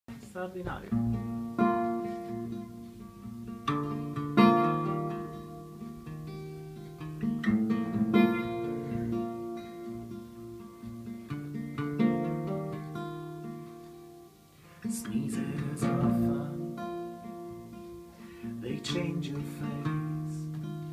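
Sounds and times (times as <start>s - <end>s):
acoustic guitar chords: 0.1s - 20.9s.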